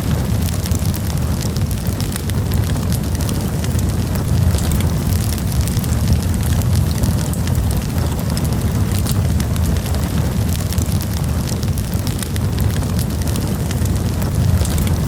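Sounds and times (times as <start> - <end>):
low rumble of fire: 0.0 - 15.0
wood crackling and popping: 0.0 - 15.0.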